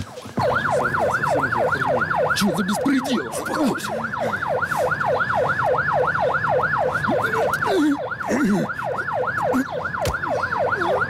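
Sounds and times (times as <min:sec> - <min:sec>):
police siren yelping: 0:00.4 - 0:11.0.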